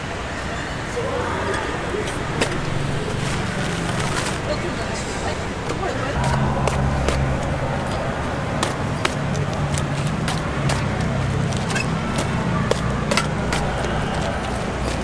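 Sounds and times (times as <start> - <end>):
low steady hum: 1.9 - 14.8.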